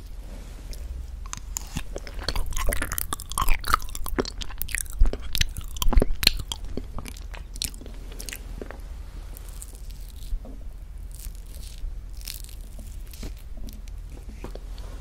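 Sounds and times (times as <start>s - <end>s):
chewing and crunching: 0.7s - 14.7s.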